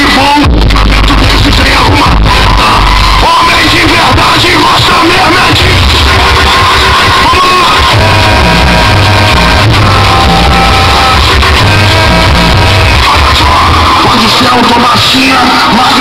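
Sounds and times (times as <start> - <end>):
loud music with heavy bass: 0.0 - 16.0
person singing: 0.8 - 16.0.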